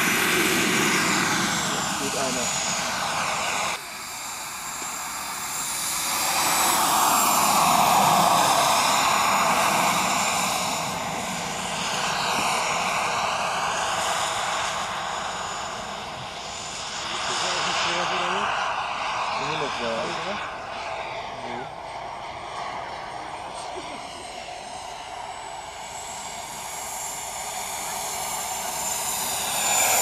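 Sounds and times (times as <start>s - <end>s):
model jet turbine passing: 0.0s - 30.0s.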